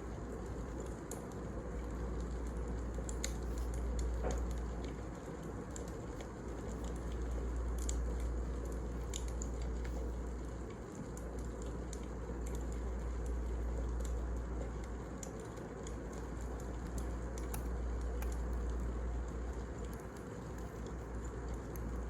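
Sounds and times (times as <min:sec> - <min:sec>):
fire crackles and pops: 0:00.0 - 0:22.0
wood fire rumbling: 0:00.0 - 0:22.0.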